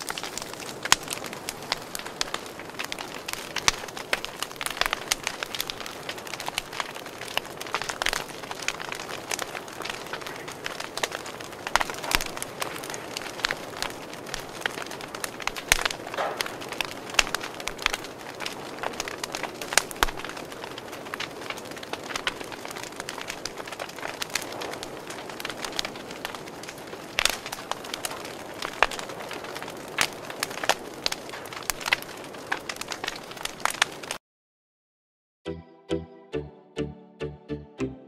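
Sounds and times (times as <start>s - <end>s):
meat crackling and sizzling on grill: 0.0s - 33.0s.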